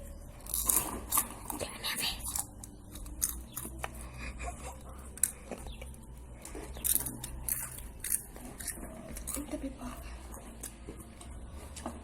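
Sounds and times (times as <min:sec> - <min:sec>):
person chewing popcorn: 0:00.0 - 0:12.0.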